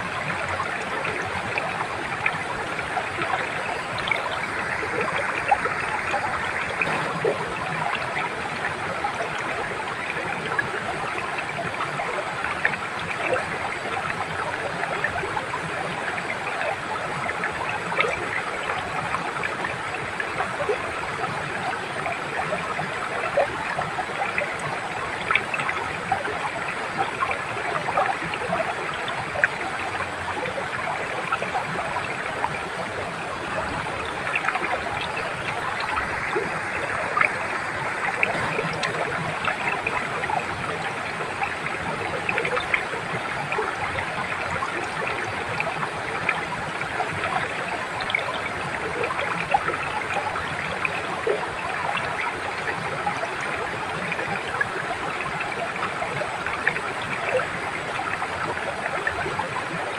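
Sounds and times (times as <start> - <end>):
water rushing over stones: 0.0 - 59.9.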